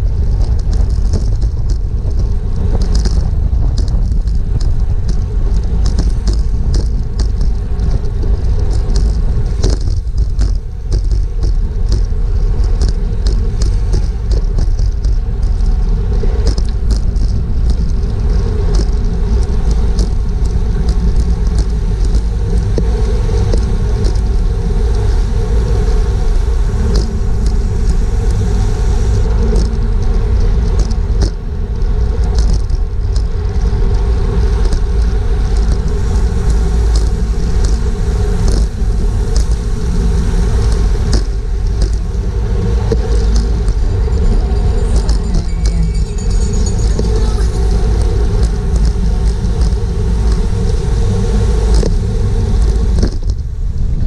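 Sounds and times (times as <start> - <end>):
bike ticks and rattles: 0.0 - 54.0
steady hum: 0.0 - 54.0
wind buffeting microphone: 0.0 - 54.0.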